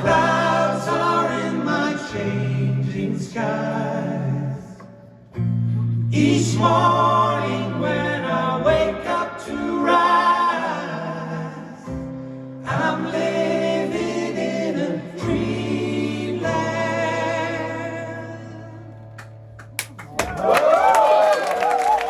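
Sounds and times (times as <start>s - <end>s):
voices singing in harmony: 0.0s - 5.2s, 6.0s - 19.1s.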